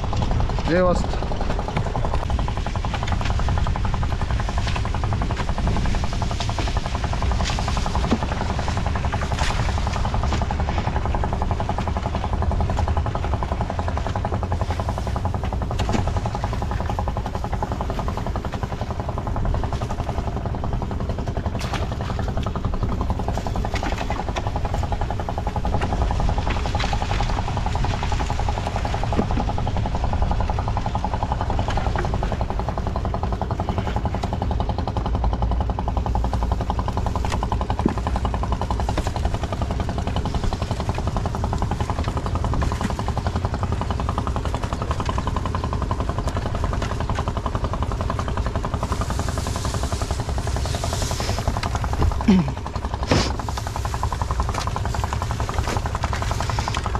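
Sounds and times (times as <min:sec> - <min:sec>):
sharp knocks and rattles: 0:00.0 - 0:56.9
small engine running: 0:00.0 - 0:56.9.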